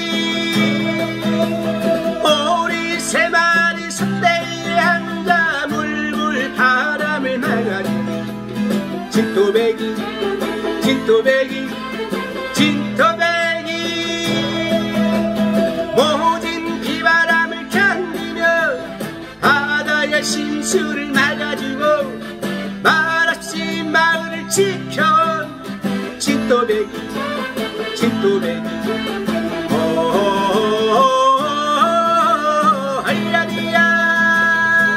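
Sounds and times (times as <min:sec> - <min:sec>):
acoustic guitar strumming: 0:00.0 - 0:34.9
man singing: 0:00.0 - 0:34.9.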